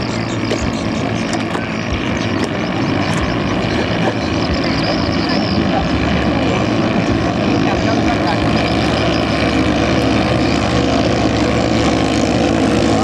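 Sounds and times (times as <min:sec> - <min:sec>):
longtail boat engines droning: 0:00.0 - 0:13.0.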